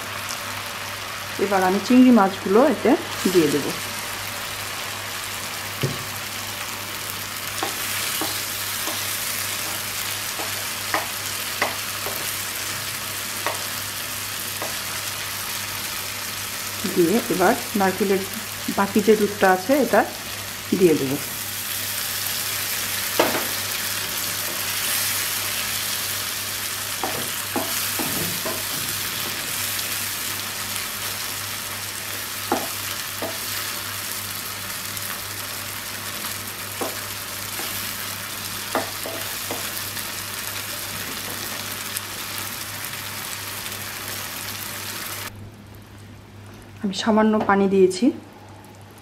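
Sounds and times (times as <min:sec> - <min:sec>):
prawns sizzling in oil: 0:00.0 - 0:46.9.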